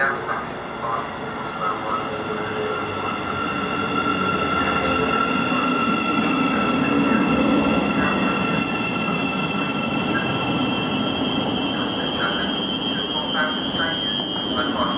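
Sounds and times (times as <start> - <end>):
high-pitched train whines: 0.0 - 14.9
train wheels rumbling: 0.0 - 14.9.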